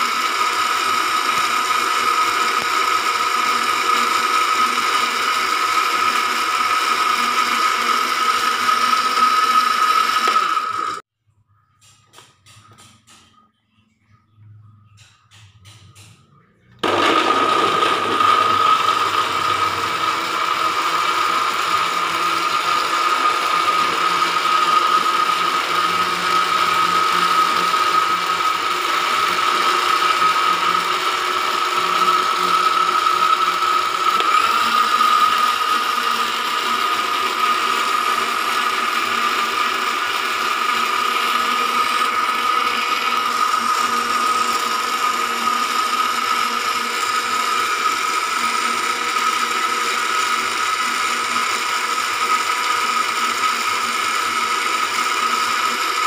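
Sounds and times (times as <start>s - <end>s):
electric blender whining: 0.0s - 11.1s, 16.7s - 56.0s.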